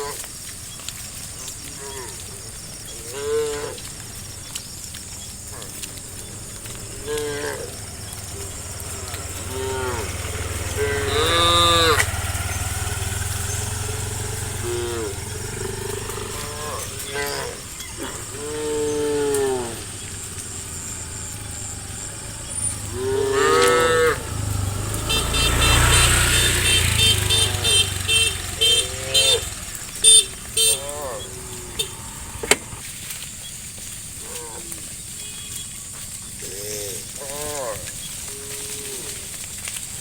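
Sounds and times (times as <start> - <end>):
vehicle sound: 0.2 - 34.2
cattle mooing: 1.6 - 4.5, 5.2 - 32.8, 36.4 - 39.2.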